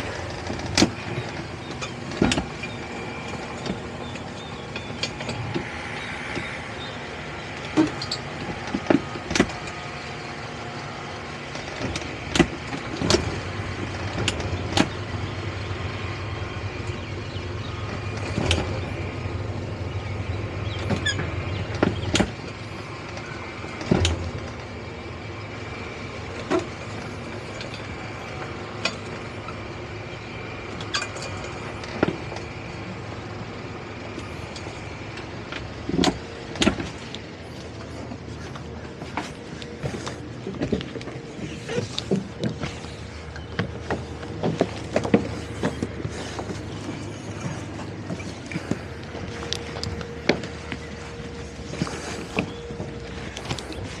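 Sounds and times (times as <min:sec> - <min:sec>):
outboard engines droning: 0:00.0 - 0:54.0.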